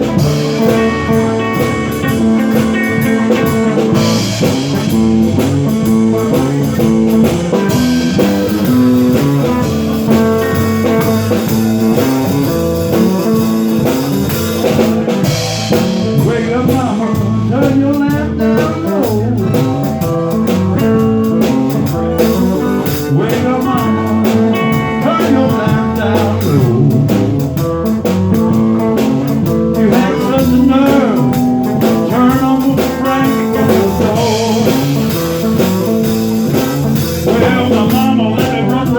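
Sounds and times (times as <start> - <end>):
blues guitar with bending notes: 0.0 - 38.9
steady drum beat: 0.0 - 38.9.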